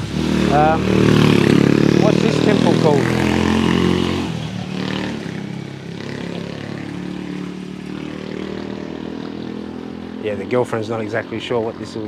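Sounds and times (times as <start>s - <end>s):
motorcycle engine passing: 0.0s - 12.0s
steady traffic hum: 0.0s - 12.0s.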